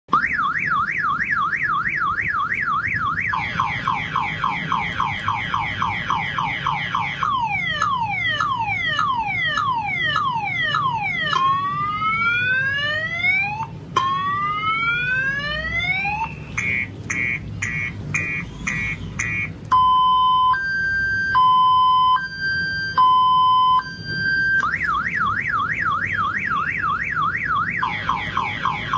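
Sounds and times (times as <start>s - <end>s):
car alarm siren: 0.1s - 28.9s.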